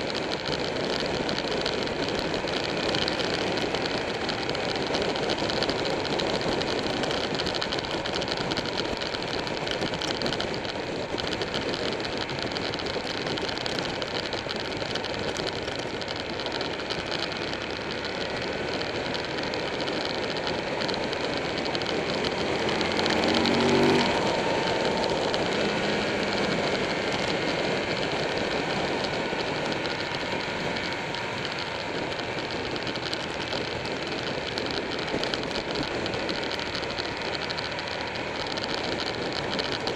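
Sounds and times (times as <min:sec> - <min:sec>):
heavy wind noise: 0:00.0 - 0:39.9
motorcycle engine running: 0:00.0 - 0:39.9.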